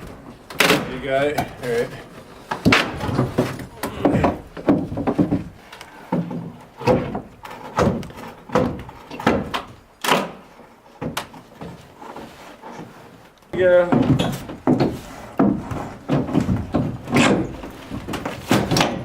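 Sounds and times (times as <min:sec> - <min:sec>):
wooden knocks and thumps: 0:00.0 - 0:19.0.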